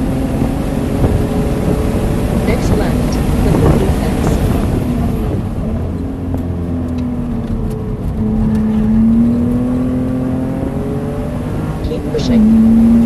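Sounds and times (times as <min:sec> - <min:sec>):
car engine: 0:00.0 - 0:13.0
wind and road noise: 0:00.0 - 0:13.0.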